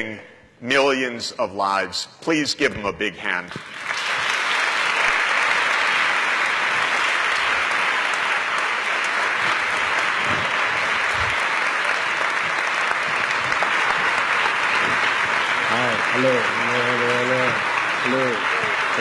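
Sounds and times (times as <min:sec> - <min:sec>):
audience applauding: 0:03.5 - 0:19.0.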